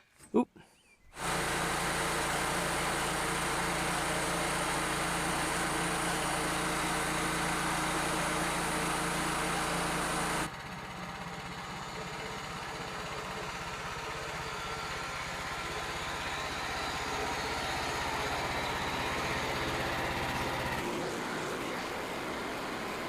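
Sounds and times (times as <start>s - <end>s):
quieter engine running: 1.1s - 23.0s
engine running steadily: 1.2s - 23.0s.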